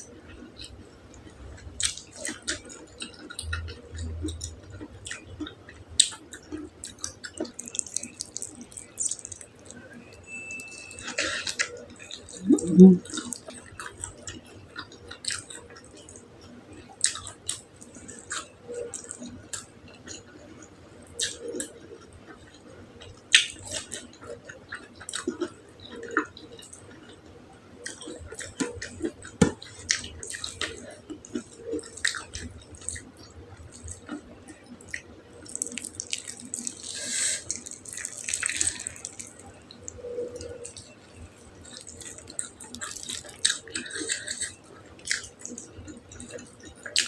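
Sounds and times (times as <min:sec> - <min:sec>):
person chewing and smacking: 0:00.3 - 0:09.9, 0:11.0 - 0:47.0.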